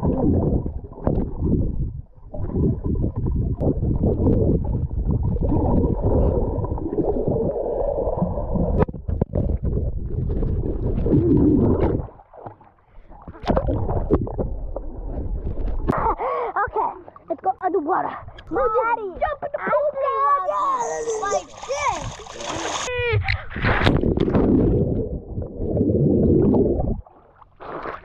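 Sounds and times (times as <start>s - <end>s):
underwater water and bubbles: 0.0s - 28.0s.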